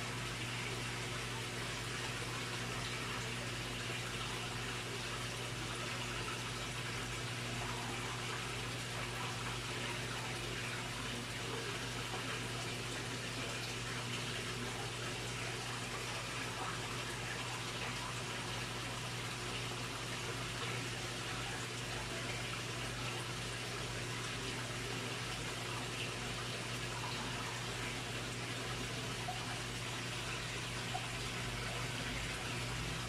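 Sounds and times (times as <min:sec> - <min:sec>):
running water in pond: 0:00.0 - 0:33.0.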